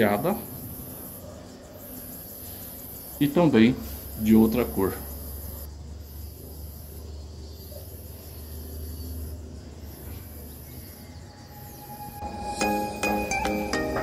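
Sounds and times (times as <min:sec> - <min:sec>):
high-pitched insect trill: 0:00.0 - 0:13.2.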